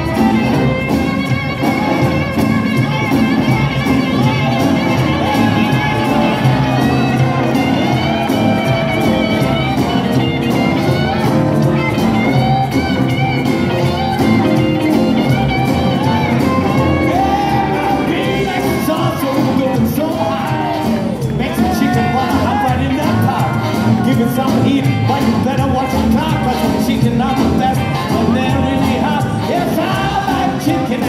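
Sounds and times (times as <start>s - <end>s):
live rock and roll band: 0.0s - 31.0s.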